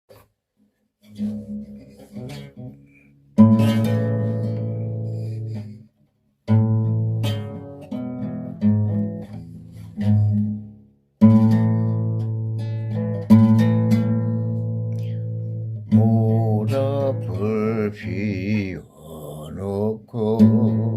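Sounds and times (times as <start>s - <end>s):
acoustic guitar playing: 1.0s - 20.9s.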